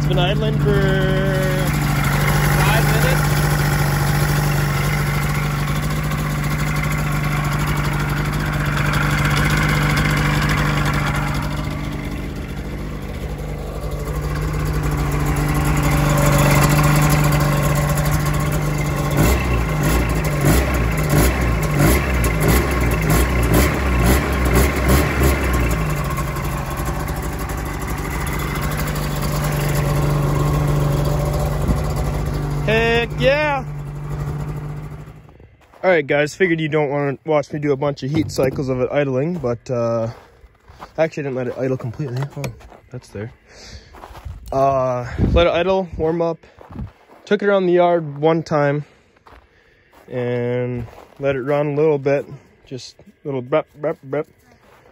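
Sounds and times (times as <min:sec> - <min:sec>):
snowmobile engine idling: 0:00.0 - 0:45.2.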